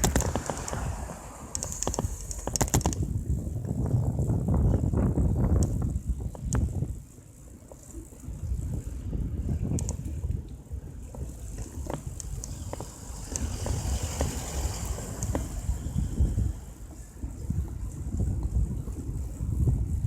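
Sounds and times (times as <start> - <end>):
bike road rumble: 0.0 - 20.0
wind buffeting microphone: 0.0 - 20.0.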